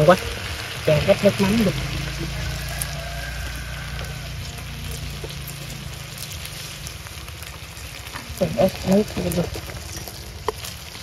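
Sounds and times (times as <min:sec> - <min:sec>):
food sizzling in hot pan: 0:00.0 - 0:11.0
low steady hum: 0:00.0 - 0:11.0.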